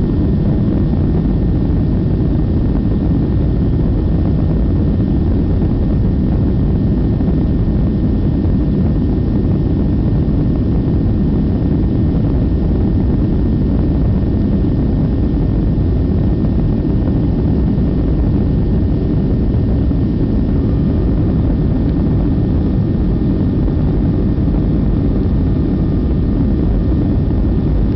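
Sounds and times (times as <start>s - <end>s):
jet engine cabin noise: 0.0s - 27.9s.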